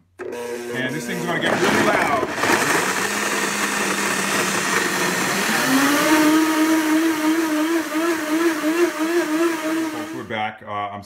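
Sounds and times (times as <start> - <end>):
loud blender motor running: 0.2 - 10.3.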